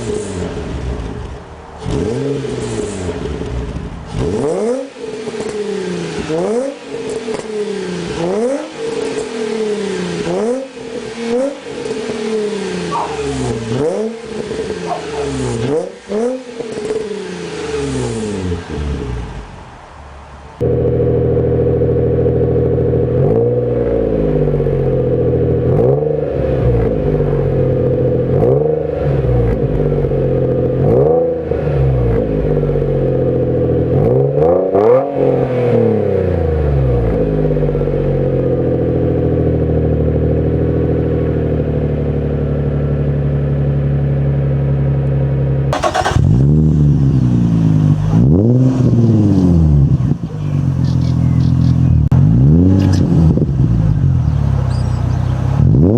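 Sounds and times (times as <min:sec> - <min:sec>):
car engine revving and idling: 0:00.0 - 0:55.9.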